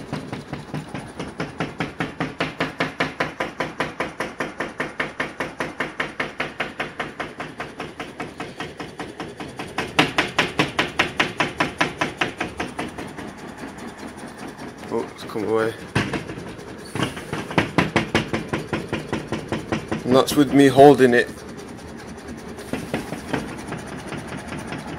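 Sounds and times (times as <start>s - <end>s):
panel rattling and knocking: 0.0s - 24.9s.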